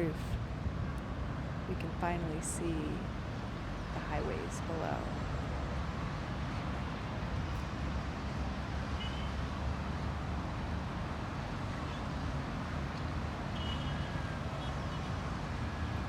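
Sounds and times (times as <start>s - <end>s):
distant highway traffic rumble: 0.0s - 16.0s.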